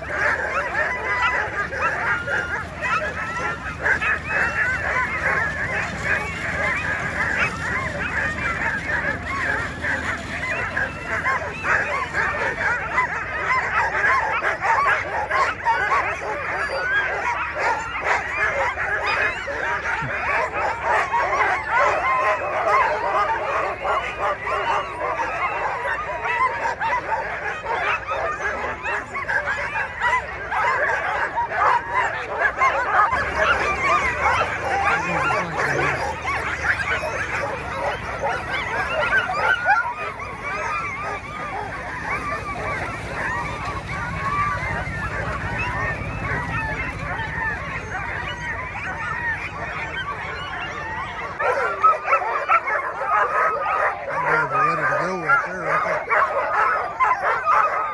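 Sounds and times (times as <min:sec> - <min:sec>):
sled dogs barking and howling: 0:00.0 - 0:57.9.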